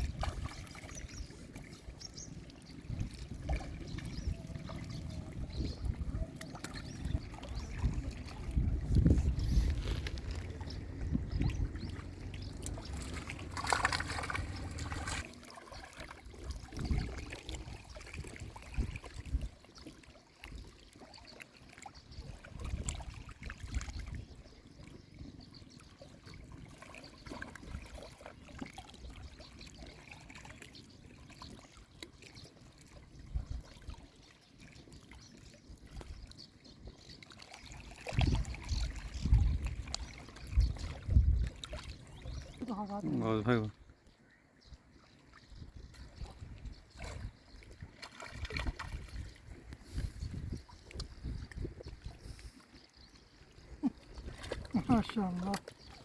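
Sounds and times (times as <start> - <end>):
river water trickling: 0.0 - 56.0.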